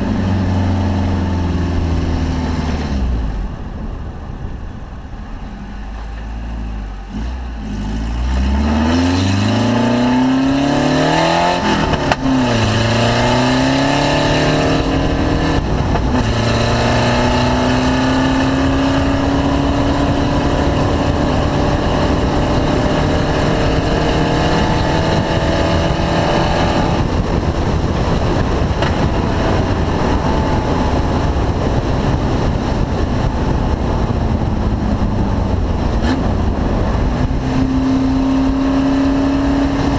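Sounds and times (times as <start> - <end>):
race car engine accelerating: 6.8 - 39.9.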